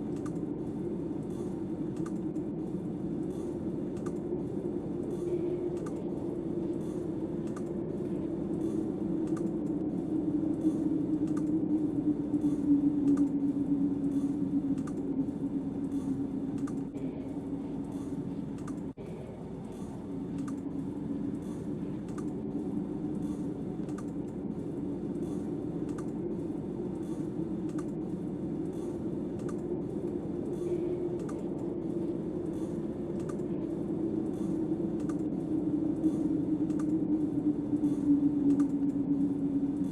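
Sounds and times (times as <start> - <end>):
storm wind drone: 0.0 - 39.9.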